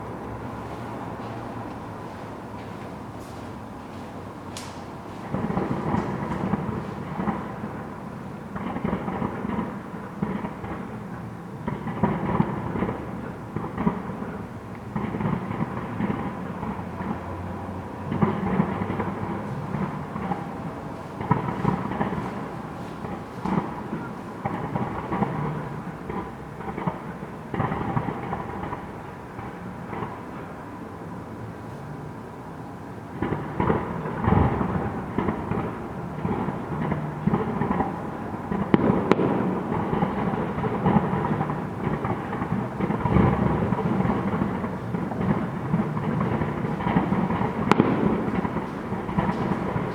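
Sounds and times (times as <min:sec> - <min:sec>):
fireworks bursting with booms: 0:04.4 - 0:17.3, 0:18.0 - 0:30.5, 0:33.1 - 0:49.9.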